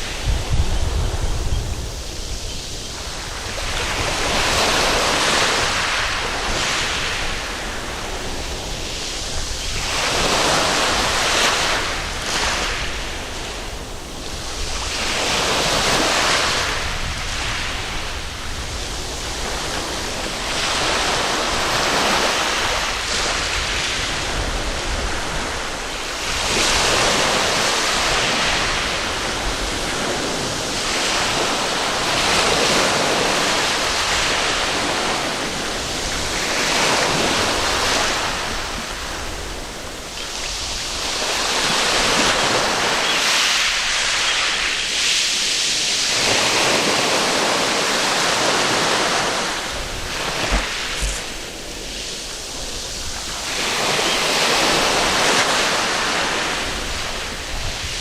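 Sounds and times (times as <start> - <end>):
waves breaking on beach: 0.0 - 58.0.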